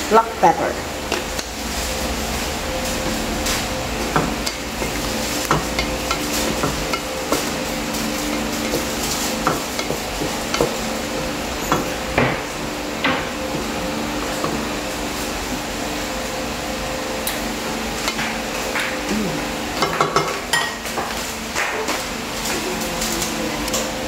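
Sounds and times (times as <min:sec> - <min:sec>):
liquid sizzling: 0:00.0 - 0:24.0.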